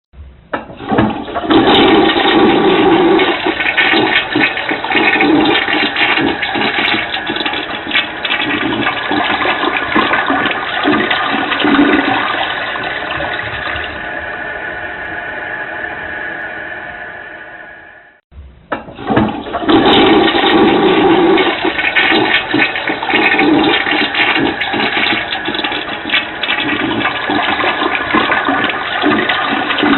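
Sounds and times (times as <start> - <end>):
toilet flush click: 0.5 - 14.4, 18.7 - 29.9
toilet water rushing: 0.6 - 18.0, 18.7 - 29.9.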